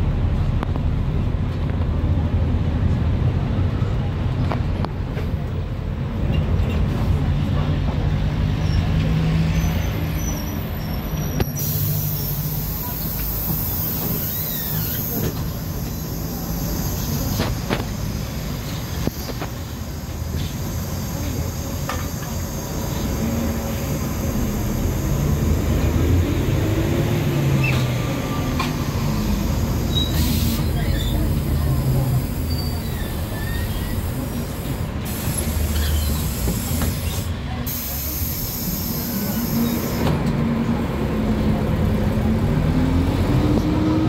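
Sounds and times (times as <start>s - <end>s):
bus engine droning: 0.0s - 44.0s
road noise: 0.0s - 44.0s.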